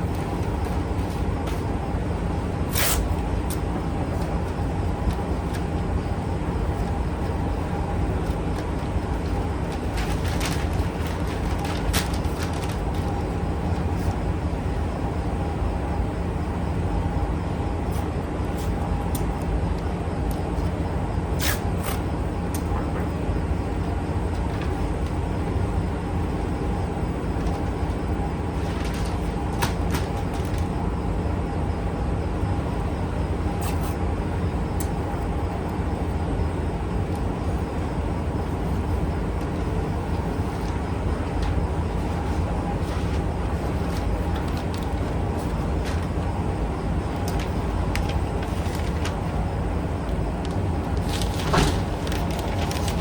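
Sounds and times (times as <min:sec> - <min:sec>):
faint hum: 0:00.0 - 0:53.0
low mechanical rumble: 0:00.0 - 0:53.0.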